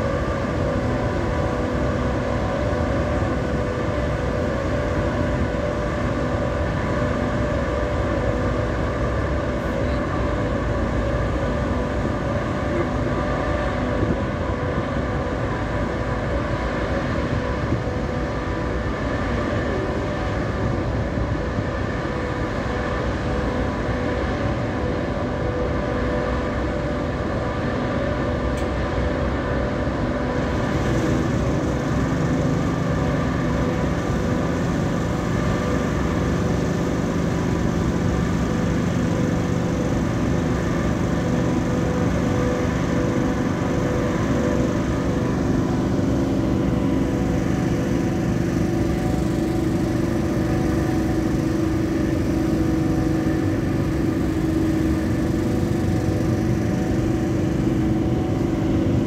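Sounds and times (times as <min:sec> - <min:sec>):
deep engine tone: 0:00.0 - 0:59.0
ship diesel engines droning: 0:00.0 - 0:59.0.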